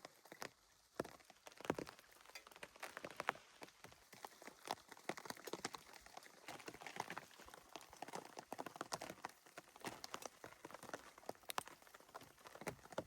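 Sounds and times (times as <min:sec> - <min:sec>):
light rain patter: 0:00.0 - 0:13.0.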